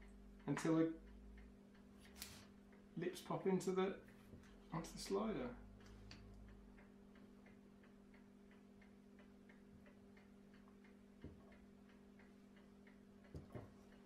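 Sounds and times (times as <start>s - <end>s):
faint even ticking: 0.0s - 14.0s
low steady hum: 0.0s - 14.0s.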